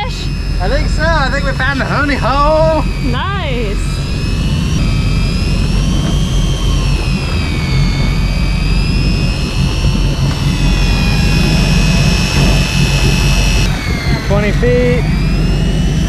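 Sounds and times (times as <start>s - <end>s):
fishing reel motor whining: 0.0s - 16.0s
low rumble: 0.0s - 16.0s.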